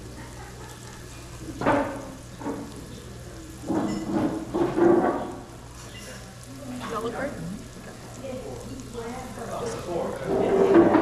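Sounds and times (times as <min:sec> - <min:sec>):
stir-fry sizzling in a pan: 0:00.0 - 0:11.0.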